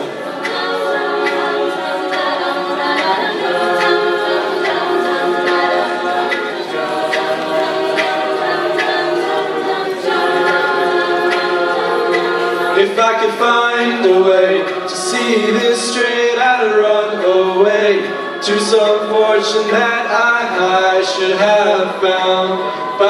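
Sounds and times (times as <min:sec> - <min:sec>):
a cappella group singing chords: 0:00.0 - 0:23.0
vocal-percussion beat: 0:00.0 - 0:23.0.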